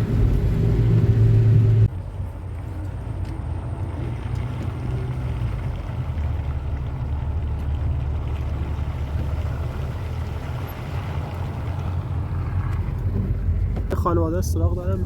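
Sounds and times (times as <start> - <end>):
moving vehicle rumble: 0.0 - 15.0.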